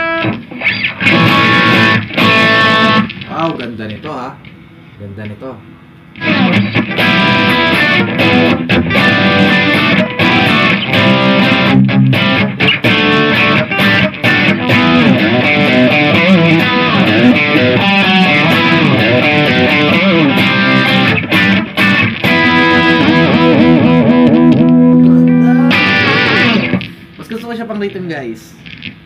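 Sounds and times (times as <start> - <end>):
distorted electric guitar: 0.0 - 27.4, 28.5 - 29.0.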